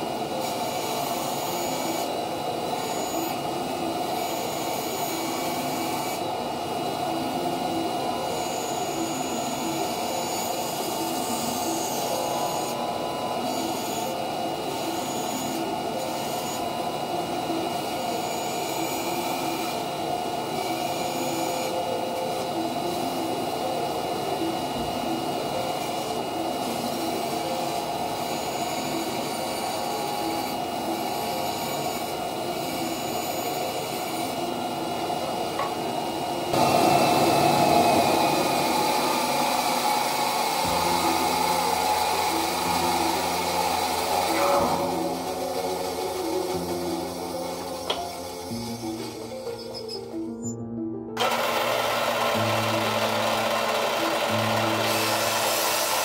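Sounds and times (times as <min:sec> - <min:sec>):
bandsaw cutting wood: 0:00.0 - 0:06.3, 0:07.6 - 0:23.6, 0:24.3 - 0:49.8, 0:51.2 - 0:56.0.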